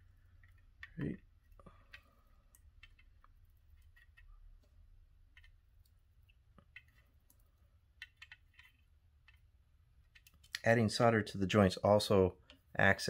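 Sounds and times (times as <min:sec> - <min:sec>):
solder ticks and crackles: 0:00.0 - 0:10.8.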